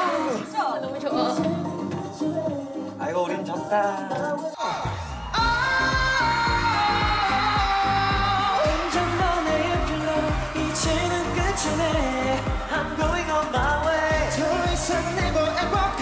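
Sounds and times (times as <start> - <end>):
pop backing track with beat: 0.0 - 16.0
man singing: 2.1 - 16.0.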